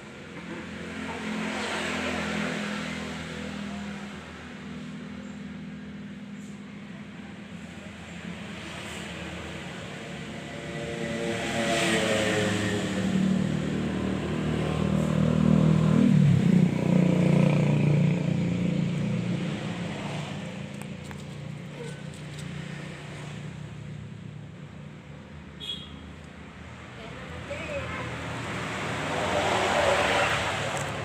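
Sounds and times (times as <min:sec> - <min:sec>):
vehicle engine passing by: 0:00.4 - 0:06.6, 0:07.6 - 0:24.0, 0:27.0 - 0:31.0.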